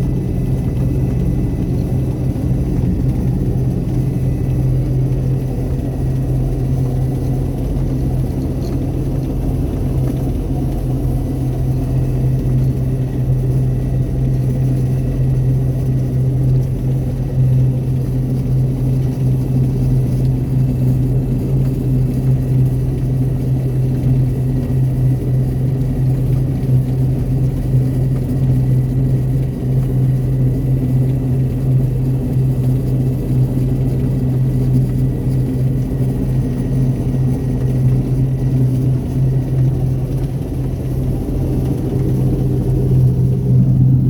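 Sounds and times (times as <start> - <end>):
harvest machinery engine drone: 0.0 - 44.0.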